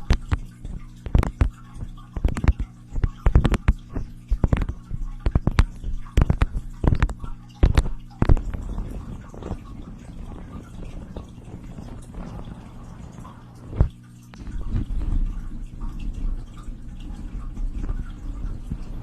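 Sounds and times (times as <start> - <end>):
low steady hum: 0.0 - 19.0
soft crackle: 0.0 - 19.0.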